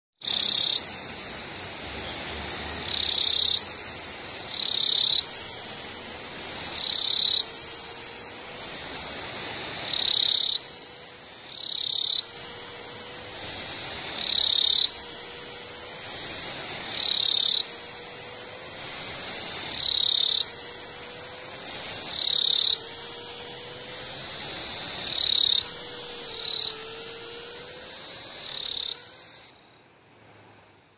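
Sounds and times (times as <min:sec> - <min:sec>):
cicada buzzing: 0:00.2 - 0:29.6.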